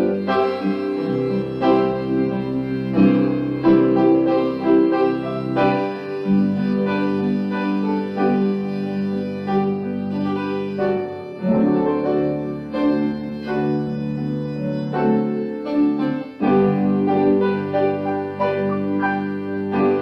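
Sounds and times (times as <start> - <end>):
organ and piano playing hymn: 0.0 - 20.0.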